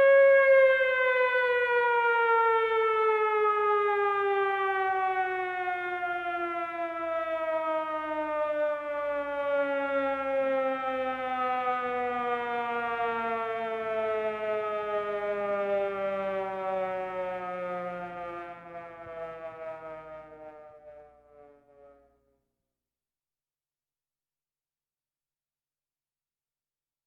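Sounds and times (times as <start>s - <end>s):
air-raid siren winding down: 0.0s - 22.2s.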